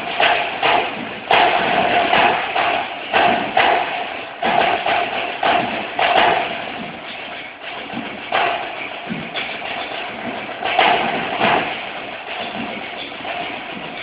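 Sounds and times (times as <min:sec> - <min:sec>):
group drumming: 0:00.0 - 0:14.0.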